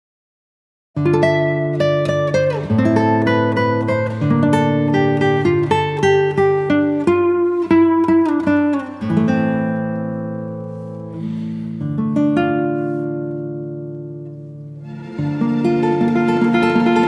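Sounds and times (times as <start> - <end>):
acoustic guitar melody: 1.0 - 17.0.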